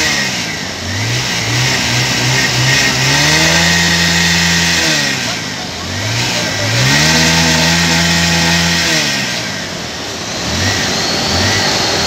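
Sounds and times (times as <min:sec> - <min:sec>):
engine revving: 0:00.0 - 0:12.0.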